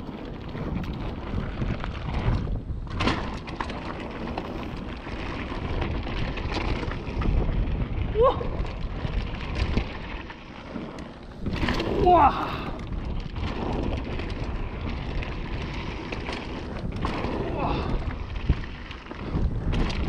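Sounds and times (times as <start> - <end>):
bike rattling and clattering: 0.0 - 20.0
tyres crunching over stones: 2.9 - 20.0.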